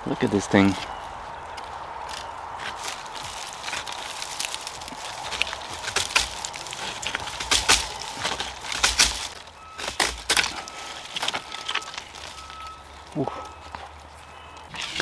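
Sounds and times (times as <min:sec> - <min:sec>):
wood cracking and splintering: 0:00.4 - 0:15.0.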